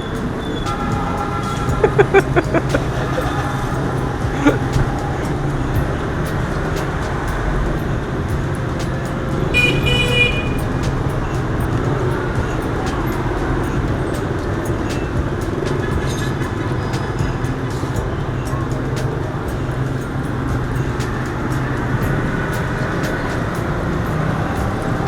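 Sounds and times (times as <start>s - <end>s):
car horn: 0.0s - 25.0s
street traffic: 0.0s - 25.0s.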